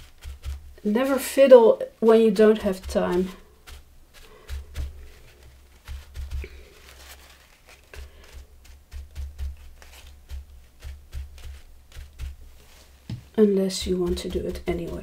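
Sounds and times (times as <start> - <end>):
paper towel patting on table: 0.0 - 0.9, 2.3 - 15.0.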